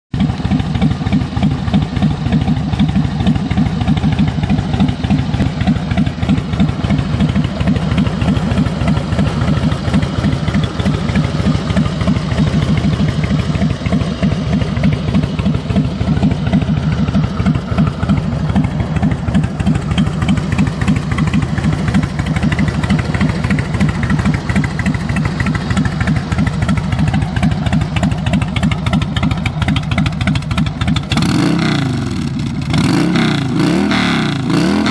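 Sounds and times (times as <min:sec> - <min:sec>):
motorcycle engine idling: 0:00.2 - 0:34.9.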